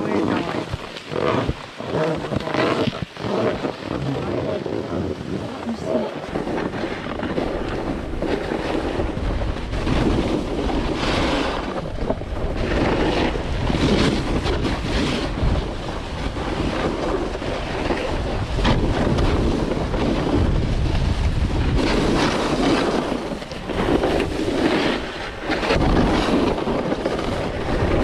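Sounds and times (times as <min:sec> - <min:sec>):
skis scraping on snow: 0:00.0 - 0:28.0
wind rumbling on microphone: 0:00.0 - 0:28.0.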